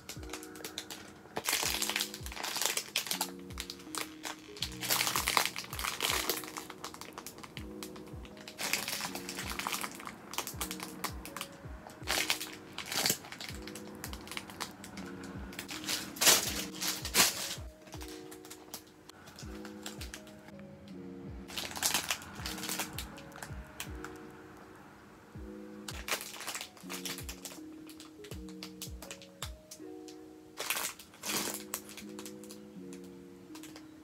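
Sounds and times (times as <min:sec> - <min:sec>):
plastic wrapper crinkling: 0:00.0 - 0:20.6, 0:21.5 - 0:24.2, 0:25.8 - 0:34.0
background music: 0:00.0 - 0:34.0.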